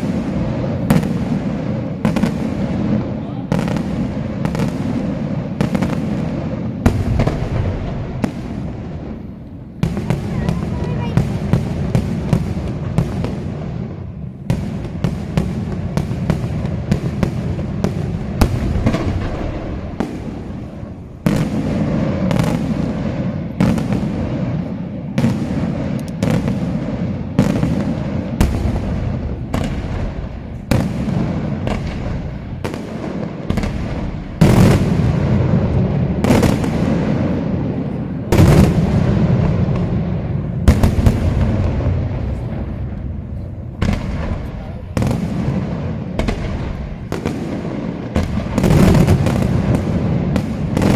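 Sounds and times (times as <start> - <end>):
heavy firework booms: 0.0 - 50.9
rumbling echo: 0.0 - 50.9.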